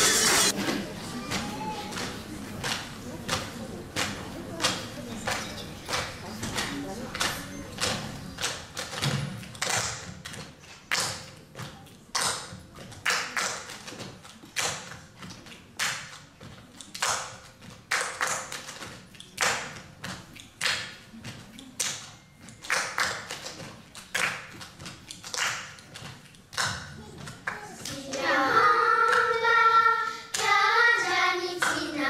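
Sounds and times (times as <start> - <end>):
children clapping a rhythm: 1.3 - 32.0.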